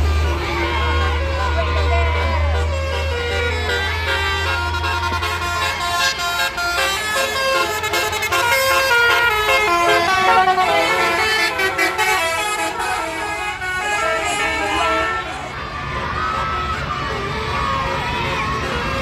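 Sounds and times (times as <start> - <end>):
multi-tone musical bus horn: 0.0 - 19.0.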